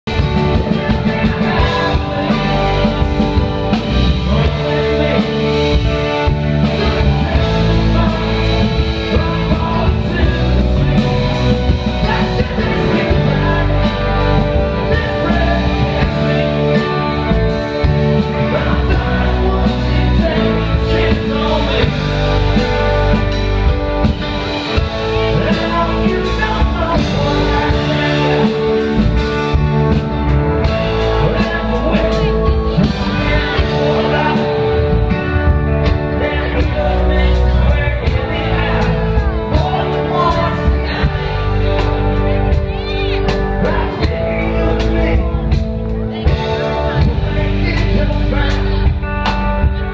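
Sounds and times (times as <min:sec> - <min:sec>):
rock band playing: 0:00.0 - 0:49.9
man singing: 0:00.1 - 0:49.9.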